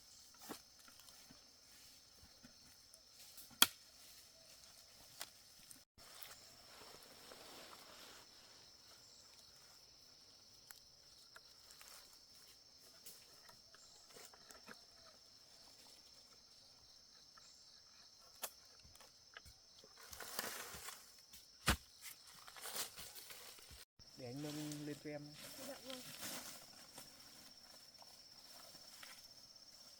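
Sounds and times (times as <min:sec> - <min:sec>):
insects droning: 0:00.0 - 0:29.9.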